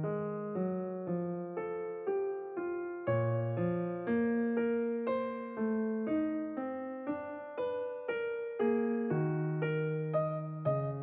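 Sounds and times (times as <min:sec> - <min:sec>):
gentle keyboard melody: 0:00.0 - 0:11.0.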